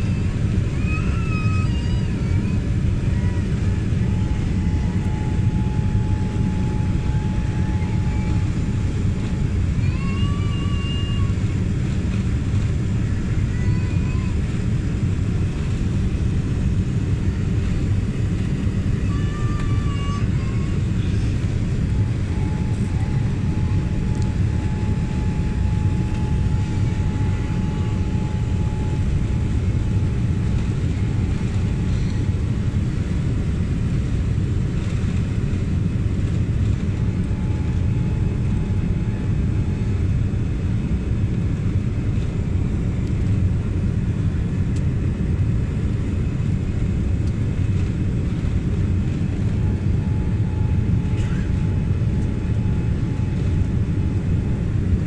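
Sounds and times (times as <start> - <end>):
jet engines and rushing air: 0.0 - 55.0
faint high whine: 0.8 - 11.5, 12.4 - 41.4, 49.1 - 54.9.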